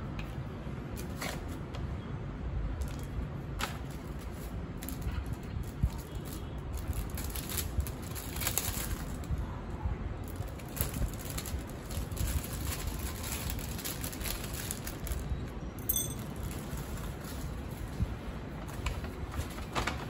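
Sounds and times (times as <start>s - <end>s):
plastic bags crinkling: 2.9s - 9.3s, 10.2s - 20.0s.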